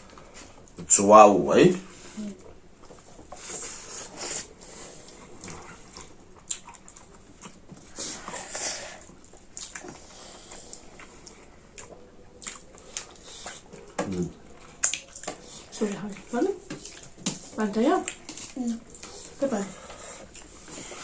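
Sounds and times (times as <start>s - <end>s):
people chewing with lip smacks: 0.0s - 0.9s, 1.7s - 21.0s.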